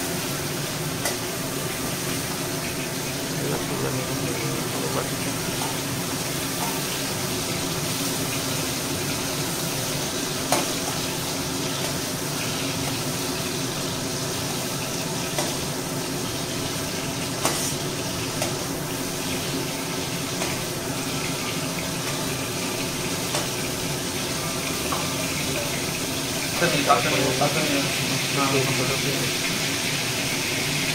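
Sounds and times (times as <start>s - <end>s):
oil sizzling: 0.0s - 30.9s.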